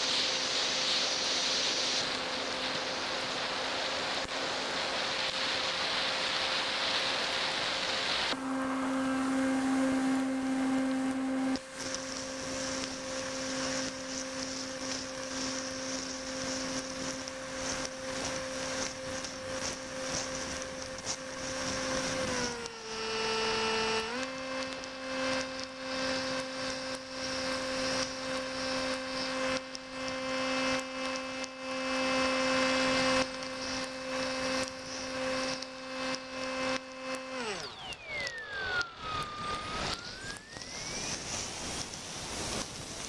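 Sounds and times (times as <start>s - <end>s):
wind and rain on microphone: 0.0s - 8.4s, 9.4s - 36.8s, 38.2s - 43.0s
loud rushing hiss: 0.0s - 36.1s, 37.7s - 43.0s
small motor humming: 0.0s - 43.0s.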